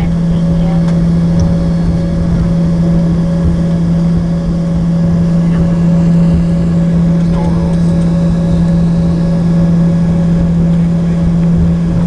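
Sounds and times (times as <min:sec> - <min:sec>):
faint steady tone: 0:00.0 - 0:11.9
jet cabin drone: 0:00.0 - 0:12.0.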